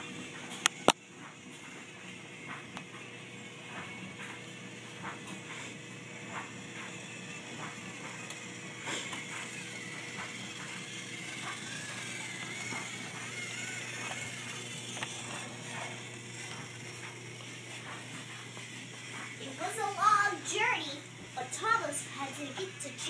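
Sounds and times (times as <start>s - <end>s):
toy train gear whir: 0.0s - 23.0s.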